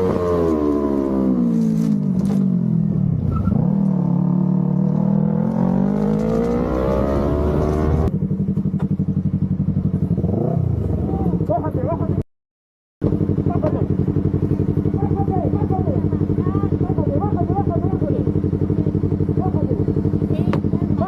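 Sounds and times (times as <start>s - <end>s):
motorcycle engine: 0.0s - 12.2s, 13.0s - 21.0s.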